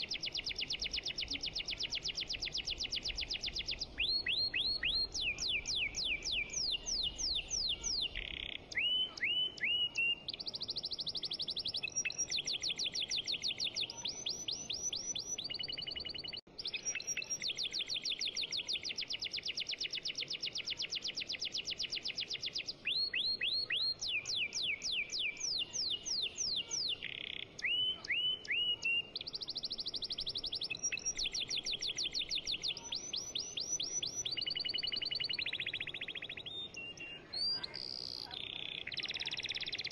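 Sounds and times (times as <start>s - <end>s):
rapid bird chirping and trills: 0.0s - 39.9s.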